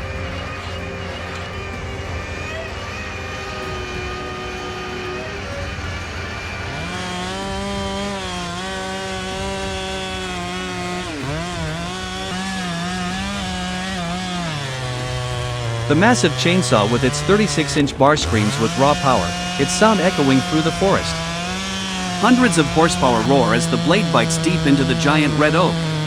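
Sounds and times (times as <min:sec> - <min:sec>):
chainsaw cutting wood: 0:00.0 - 0:26.0
engine running: 0:00.0 - 0:26.0.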